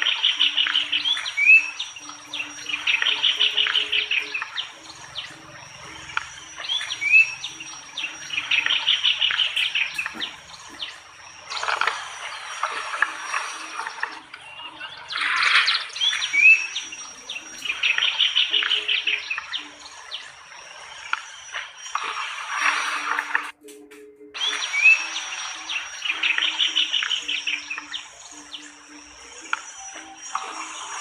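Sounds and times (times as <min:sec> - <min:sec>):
birds chirping: 0:00.0 - 0:23.7, 0:24.3 - 0:31.0.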